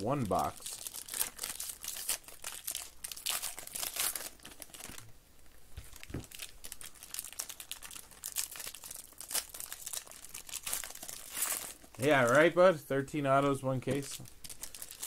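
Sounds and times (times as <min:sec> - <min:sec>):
foil wrappers crinkling and tearing: 0:00.0 - 0:05.1, 0:05.8 - 0:12.5, 0:13.9 - 0:15.0.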